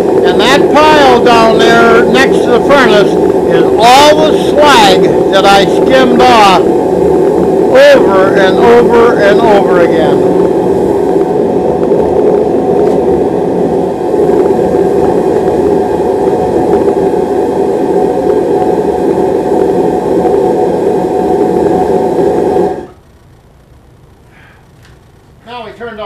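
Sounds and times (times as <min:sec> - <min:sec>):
furnace burner rushing: 0:00.0 - 0:23.4.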